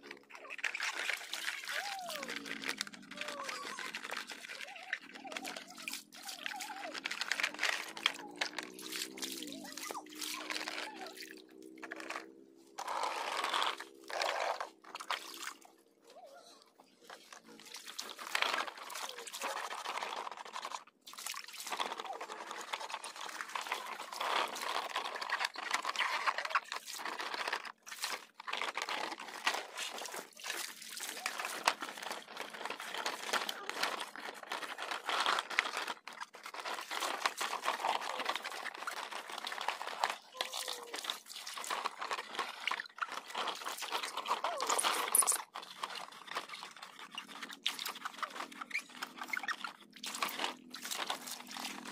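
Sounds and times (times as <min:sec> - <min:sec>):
plastic toys scraping and knocking: 0:00.0 - 0:51.9
water splashing and sloshing: 0:00.0 - 0:51.9.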